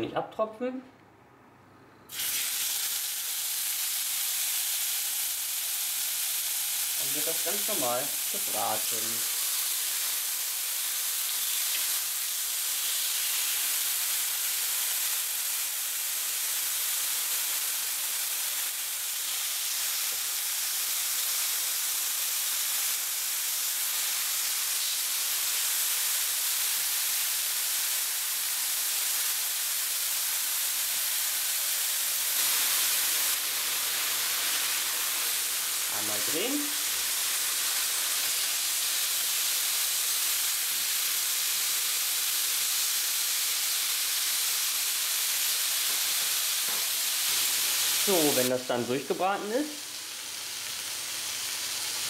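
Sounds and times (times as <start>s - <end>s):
chicken sizzling in a grill pan: 2.1s - 52.0s.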